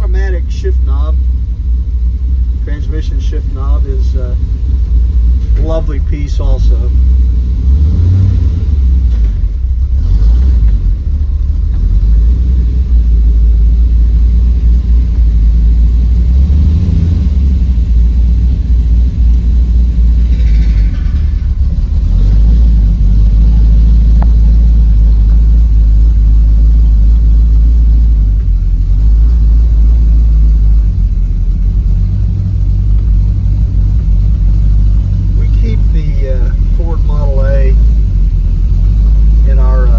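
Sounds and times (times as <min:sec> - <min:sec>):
engine idling deep rumble: 0:00.0 - 0:39.9.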